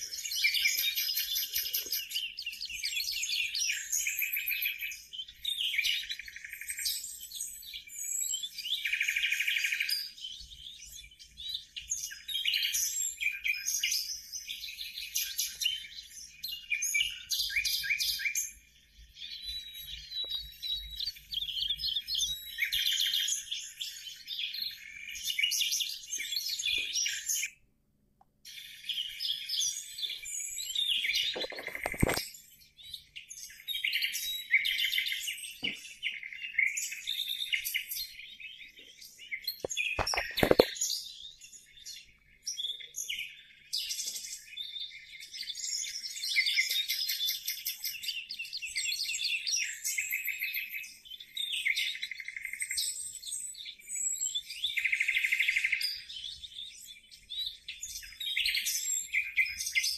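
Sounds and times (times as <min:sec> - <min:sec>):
bird chirping and twittering: 0:00.0 - 0:27.6, 0:28.5 - 0:59.9.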